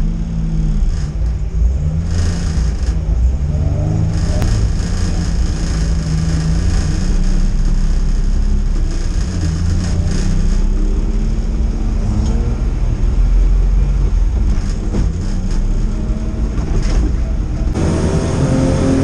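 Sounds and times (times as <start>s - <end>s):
car engine at low revs: 0.0s - 19.0s.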